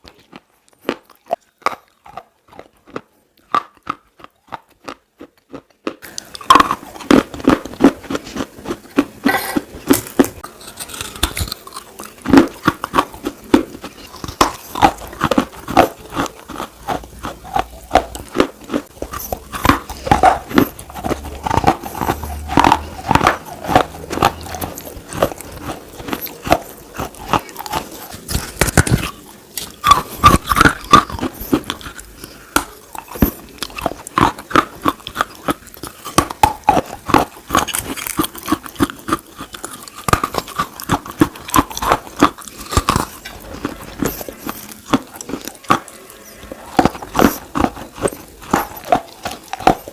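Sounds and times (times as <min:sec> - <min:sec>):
slate being chewed crunching: 0:00.0 - 0:49.9.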